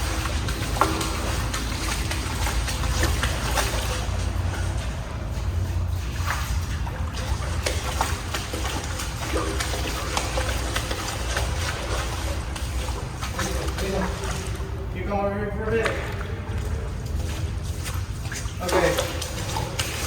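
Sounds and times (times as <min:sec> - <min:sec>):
footsteps wading through water: 0:00.0 - 0:20.0
water splashing: 0:00.0 - 0:20.0.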